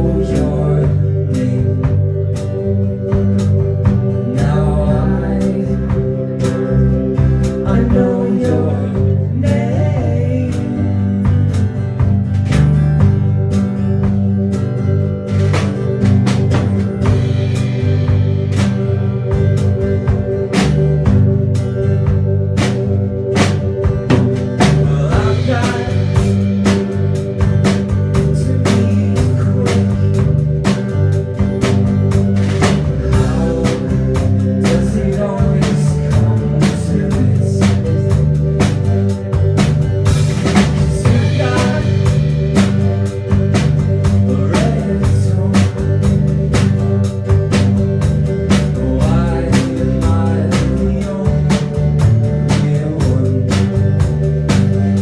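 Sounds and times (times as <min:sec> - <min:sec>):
drum kit beat: 0:00.0 - 0:55.0
rock band playing live: 0:00.0 - 0:55.0.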